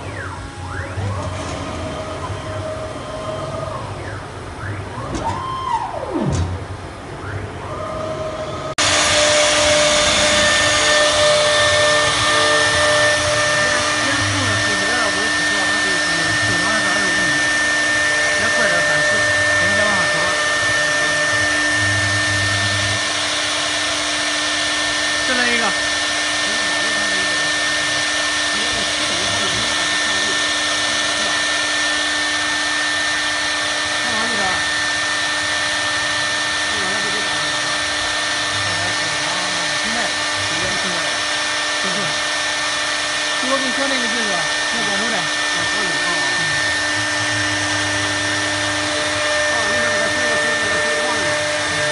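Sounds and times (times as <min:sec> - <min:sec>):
router spindle whine: 0:00.0 - 0:51.9.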